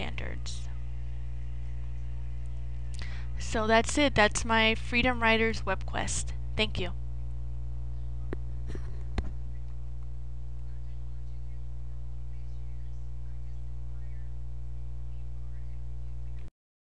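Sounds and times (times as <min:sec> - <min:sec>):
electrical mains hum: 0:00.0 - 0:16.5.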